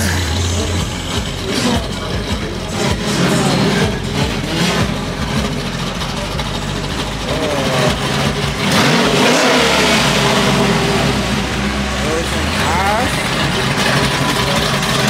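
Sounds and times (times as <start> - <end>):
vehicle engine revving: 0.0 - 15.0
voices: 0.0 - 15.0.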